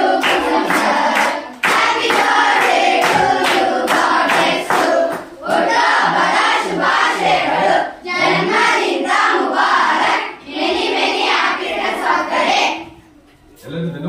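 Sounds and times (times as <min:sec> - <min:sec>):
children singing in unison: 0:00.0 - 0:13.0.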